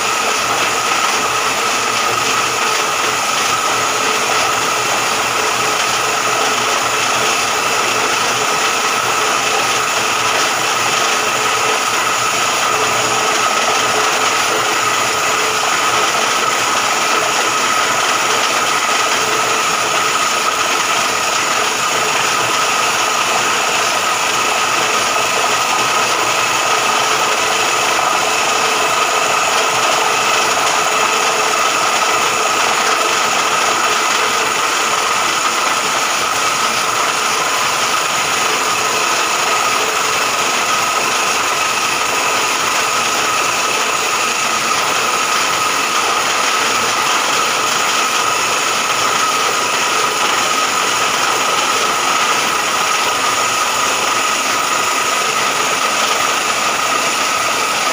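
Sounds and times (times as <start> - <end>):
drilling rig whining: 0.0 - 57.9.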